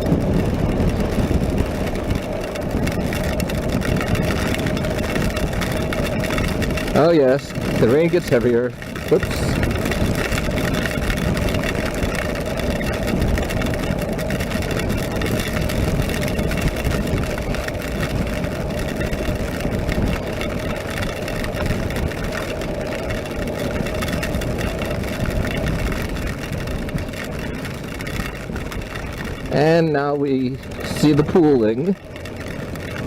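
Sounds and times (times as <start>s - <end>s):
wind rush: 0.0s - 31.7s
motorcycle engine cruising: 0.0s - 33.0s.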